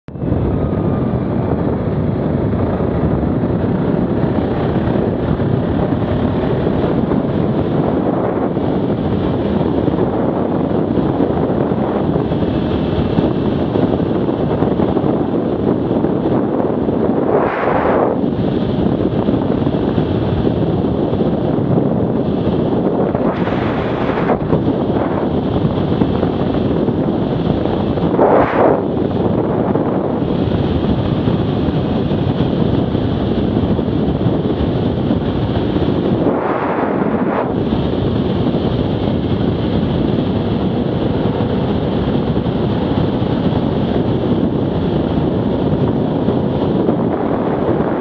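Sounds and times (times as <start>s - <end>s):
wind buffeting the microphone: 0.0s - 48.0s.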